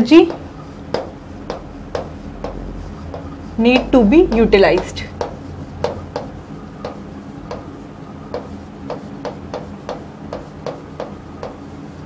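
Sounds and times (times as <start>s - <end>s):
chalk tapping and scratching on board: 0.0s - 12.0s.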